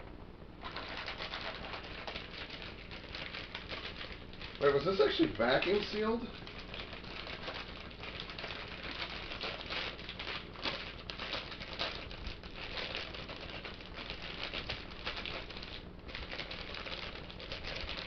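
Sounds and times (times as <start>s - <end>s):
plastic bag crinkling: 0.6s - 18.0s.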